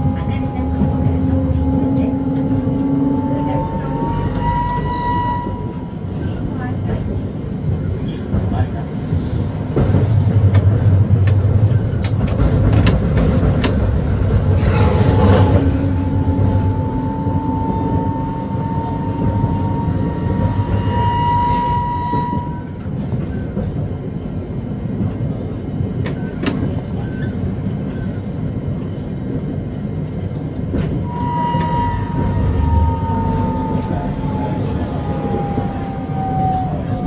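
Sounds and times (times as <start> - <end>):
tram wheels rumbling on rail: 0.0 - 37.0.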